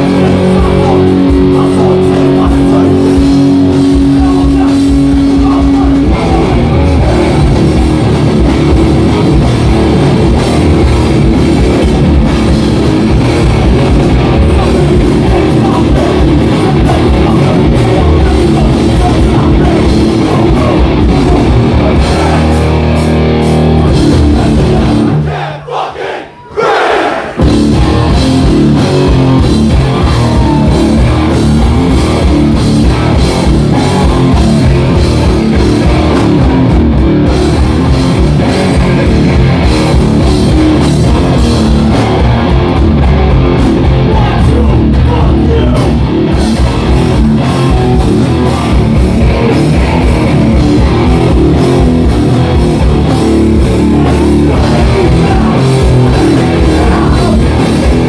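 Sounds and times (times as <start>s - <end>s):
distorted electric guitars: 0.0s - 25.3s, 27.4s - 58.0s
drum kit: 0.0s - 25.4s, 27.3s - 58.0s
bass guitar: 0.0s - 25.5s, 27.3s - 58.0s.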